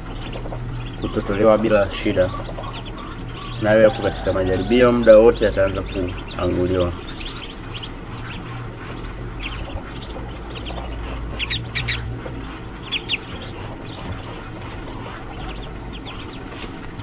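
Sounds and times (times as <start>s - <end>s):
ducklings peeping: 0.0s - 17.0s
low steady hum: 0.0s - 17.0s.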